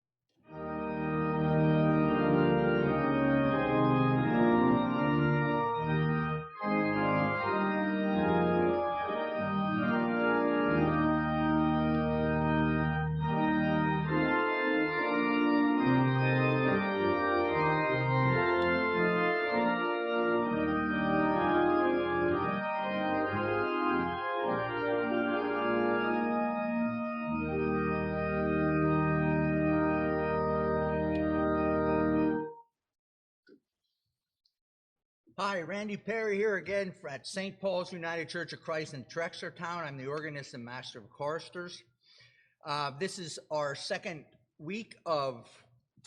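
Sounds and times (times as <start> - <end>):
church organ chords: 0.5 - 32.6, 35.4 - 41.8.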